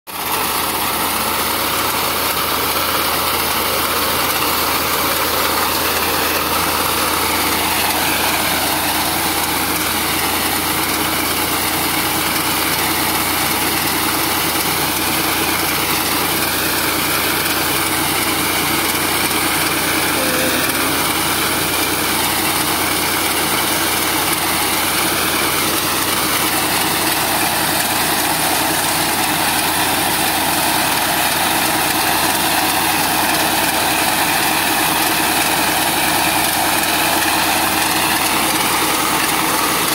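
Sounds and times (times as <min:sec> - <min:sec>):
tractor diesel engine running: 0:00.1 - 0:39.9.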